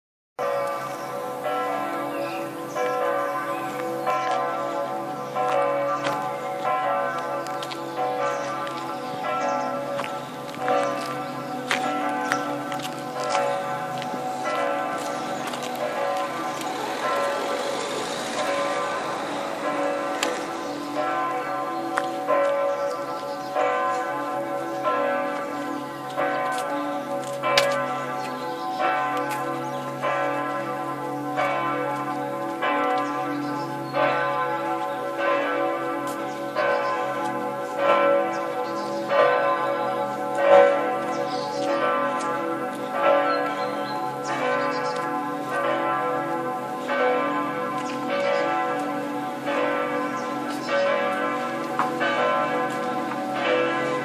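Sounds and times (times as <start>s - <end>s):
church bells ringing: 0.4s - 54.0s.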